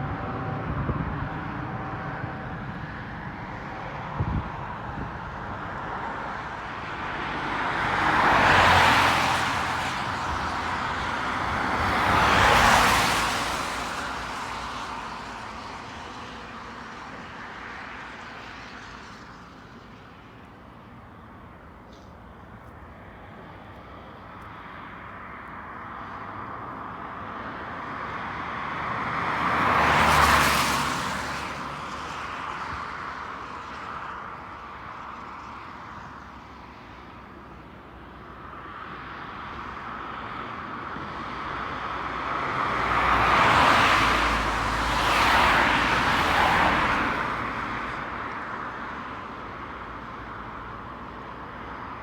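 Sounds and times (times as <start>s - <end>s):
road vehicles passing: 0.0s - 52.0s.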